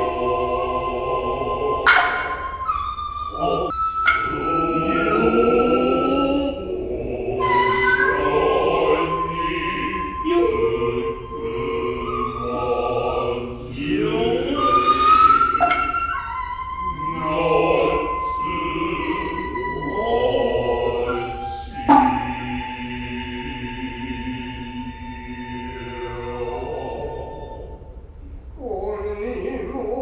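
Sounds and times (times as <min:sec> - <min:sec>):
men chanting: 0:00.0 - 0:02.6, 0:03.4 - 0:15.7, 0:16.8 - 0:27.7
bamboo flute sliding notes: 0:00.0 - 0:28.1.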